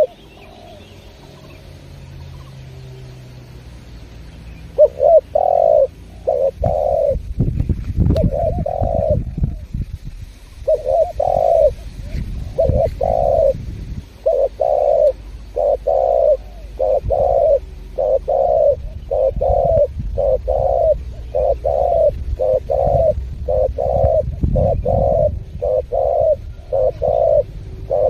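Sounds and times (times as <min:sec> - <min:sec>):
dove cooing: 0:00.0 - 0:01.7, 0:04.7 - 0:07.3, 0:08.1 - 0:09.7, 0:10.6 - 0:28.0
low steady rumble: 0:00.0 - 0:28.0.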